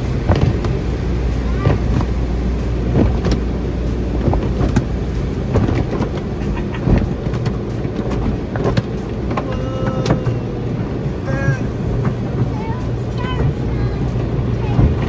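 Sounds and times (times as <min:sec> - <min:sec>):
car wash brushes scrubbing car: 0:00.0 - 0:15.0
low rumble of wash machinery: 0:00.0 - 0:15.0.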